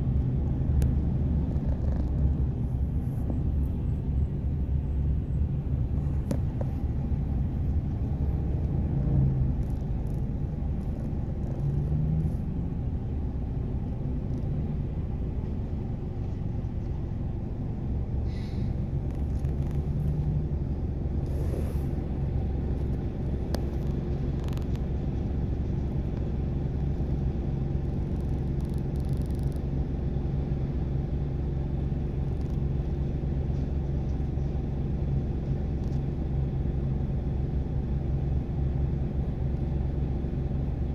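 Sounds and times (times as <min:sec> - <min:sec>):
road traffic rumble inside car: 0:00.0 - 0:40.9.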